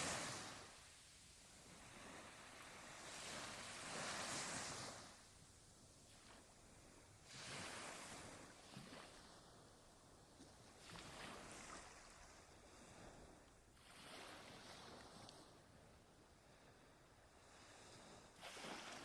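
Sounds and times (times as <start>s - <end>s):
sea waves washing ashore: 0.0s - 19.0s.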